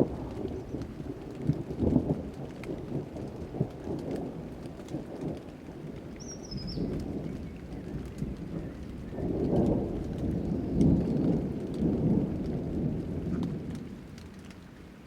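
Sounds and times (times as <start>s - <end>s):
thunder rumbling: 0.0s - 14.7s
raindrops ticking: 0.0s - 15.0s.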